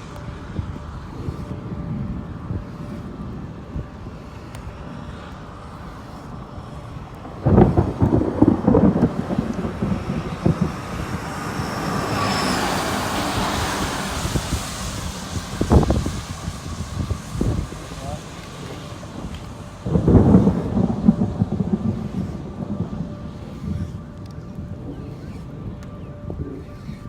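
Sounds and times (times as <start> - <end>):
low steady rumble: 0.0 - 27.0
rush of wind or rain: 0.0 - 27.0
wind buffeting microphone: 0.0 - 27.0.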